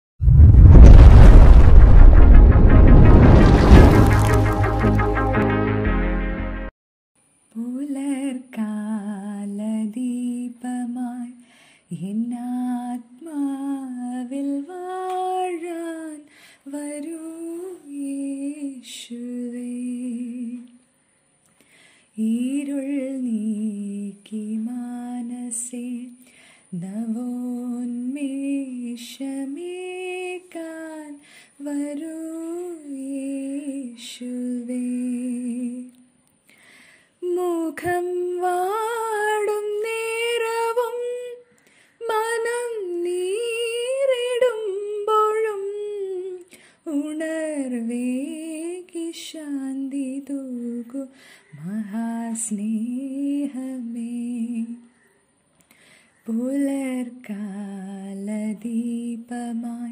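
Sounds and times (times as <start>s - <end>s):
woman singing wordlessly: 7.5s - 20.8s, 22.2s - 36.2s, 37.2s - 54.9s, 56.2s - 59.9s.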